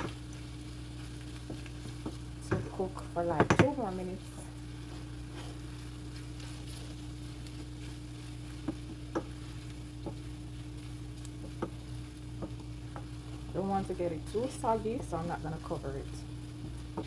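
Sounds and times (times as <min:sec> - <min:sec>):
food sizzling in pan: 0:00.0 - 0:17.0.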